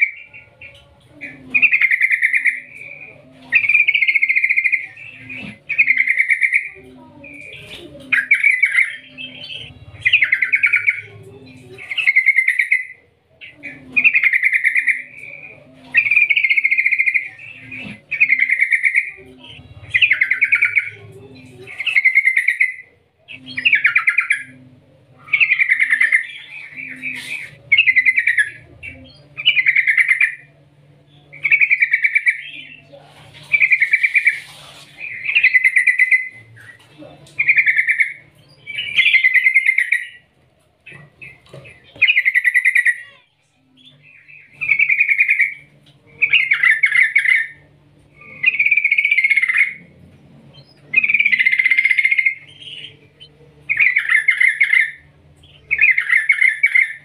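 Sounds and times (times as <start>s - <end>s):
bird singing bubbly phrases: 0.0s - 40.3s, 40.9s - 57.0s.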